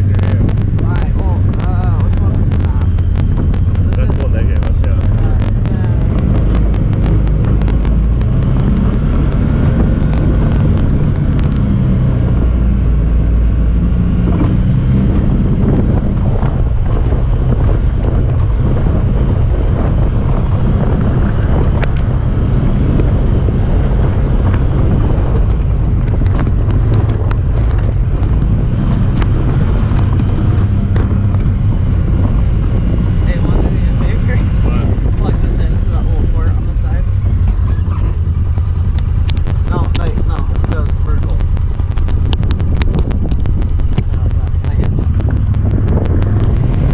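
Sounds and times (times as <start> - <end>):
sharp clicks and rattles: 0.0 - 46.9
vehicle engine running: 0.0 - 46.9.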